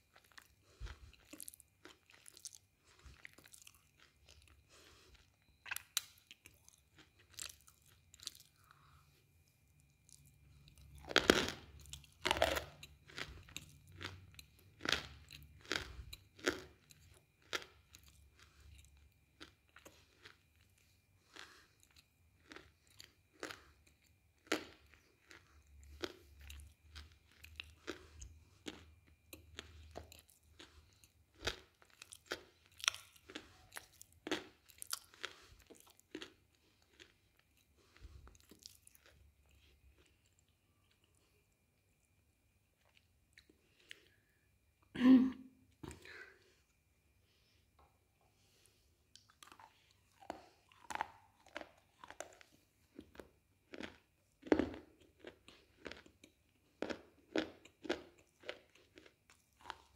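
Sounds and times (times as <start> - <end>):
crisp crunching while chewing: 0.1 - 8.9, 10.1 - 41.4, 49.2 - 59.9.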